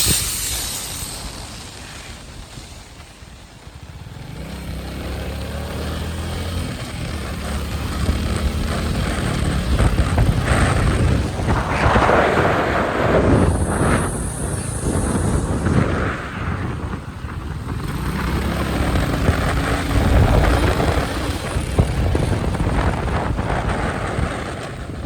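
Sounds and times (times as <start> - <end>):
loud rush of noise: 0.0 - 4.7, 6.8 - 25.0
motorcycle engine running: 0.0 - 25.0.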